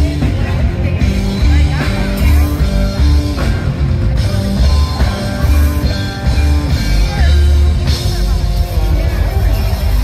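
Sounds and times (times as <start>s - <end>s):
heavy bass line: 0.0s - 10.0s
live reggae band: 0.0s - 10.0s.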